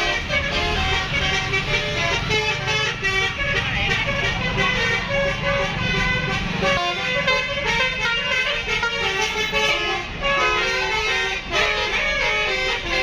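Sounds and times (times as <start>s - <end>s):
bus air horns playing melodic tunes: 0.0s - 13.0s
low engine rumble: 0.0s - 13.0s.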